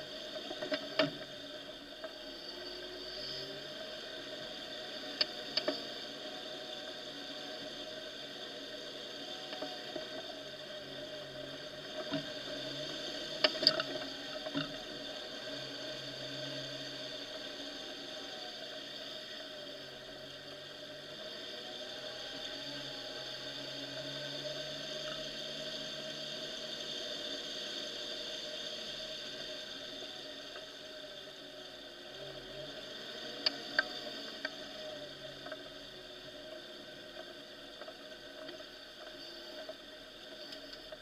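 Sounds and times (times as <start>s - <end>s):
off-road vehicle engine drone: 0.0s - 41.0s.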